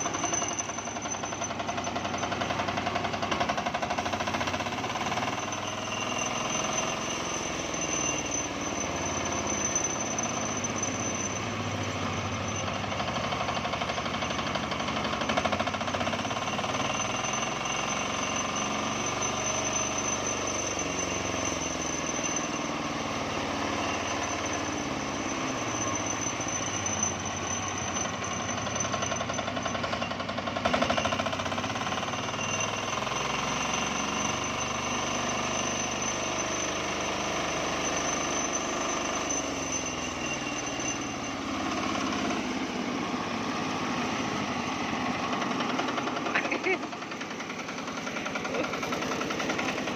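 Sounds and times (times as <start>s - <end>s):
diesel engine knocking: 0.0s - 42.9s, 43.6s - 49.9s.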